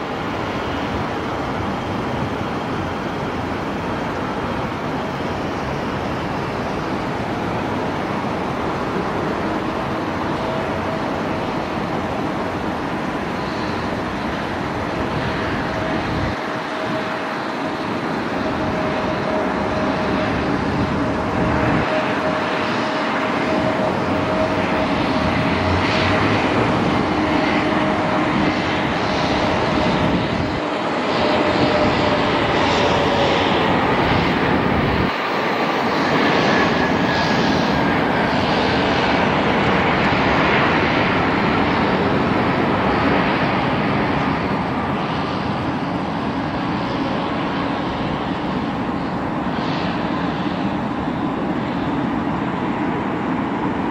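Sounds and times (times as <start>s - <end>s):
falling engine whine: 0.0s - 53.9s
jet engine roar: 0.0s - 53.9s.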